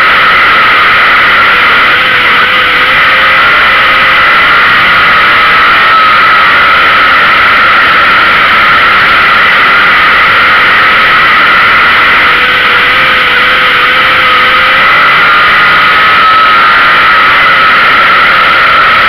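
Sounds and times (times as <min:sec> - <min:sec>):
race car engine running: 0:00.0 - 0:19.0
steady rushing noise: 0:00.0 - 0:19.0.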